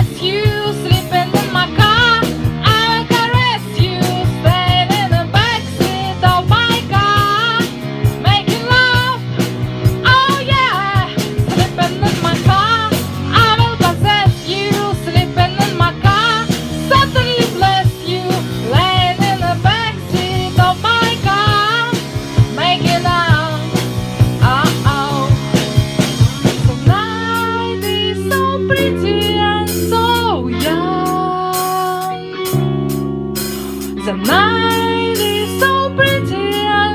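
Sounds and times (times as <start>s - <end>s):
instrumental backing with drum beat: 0.0s - 36.9s
woman singing rock song: 0.0s - 36.9s.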